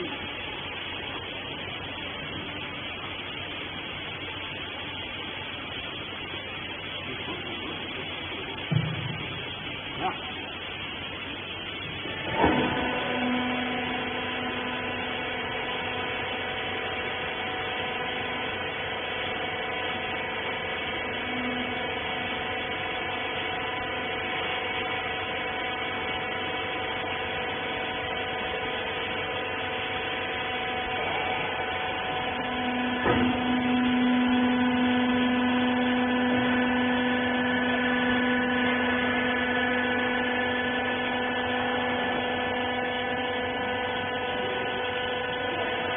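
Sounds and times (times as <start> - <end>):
baler motor and pump humming: 0.0 - 45.9.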